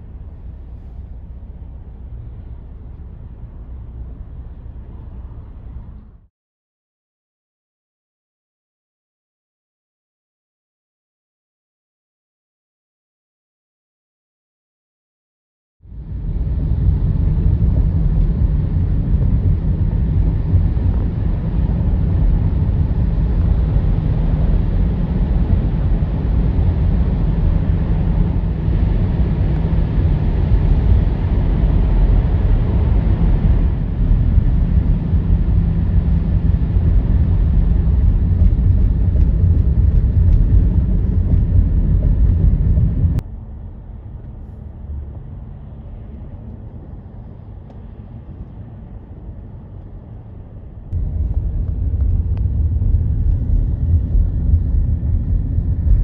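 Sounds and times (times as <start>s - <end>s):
vehicle rumbling in motion: 0.0s - 6.3s, 15.8s - 56.0s.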